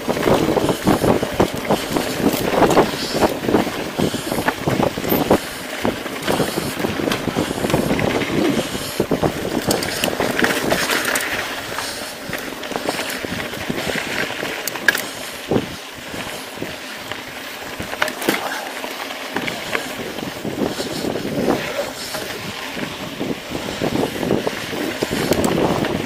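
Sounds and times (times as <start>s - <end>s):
tyres crunching over gravel: 0.0s - 26.0s.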